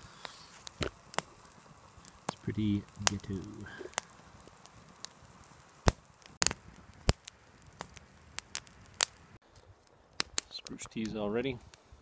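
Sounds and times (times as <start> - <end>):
campfire crackling and popping: 0.0 - 12.0
soft fire hiss: 0.0 - 12.0.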